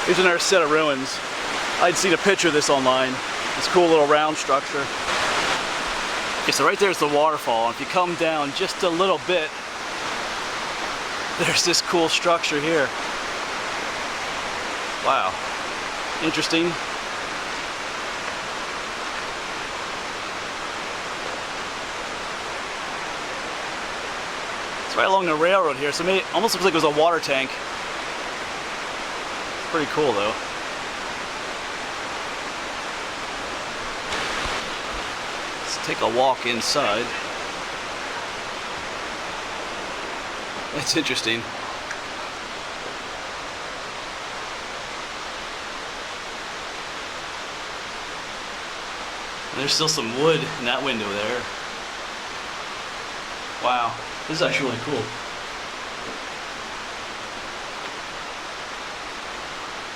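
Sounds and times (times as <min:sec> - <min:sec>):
small waterfall rushing: 0:00.0 - 0:59.9.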